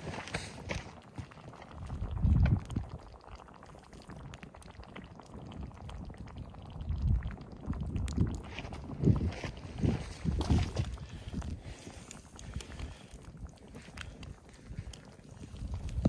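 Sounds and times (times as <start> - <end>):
stew bubbling at a simmer: 0.0 - 16.0.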